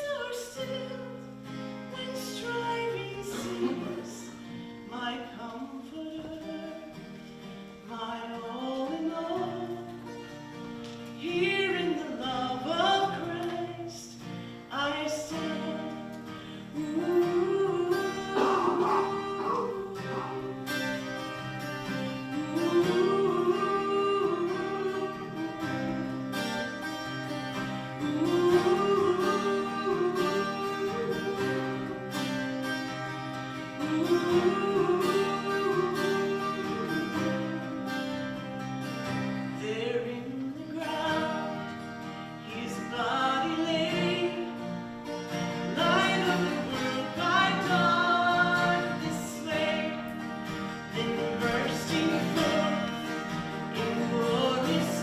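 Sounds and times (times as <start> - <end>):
slow worship music with guitar: 0.0 - 55.0.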